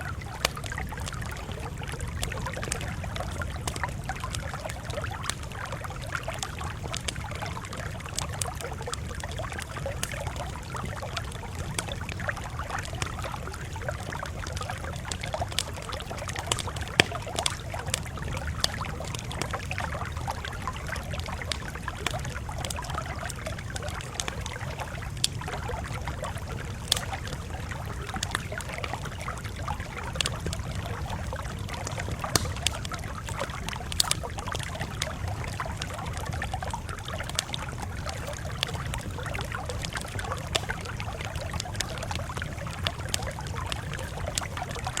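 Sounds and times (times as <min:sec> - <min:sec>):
campfire crackling: 0:00.0 - 0:45.0
fire popping: 0:00.0 - 0:45.0.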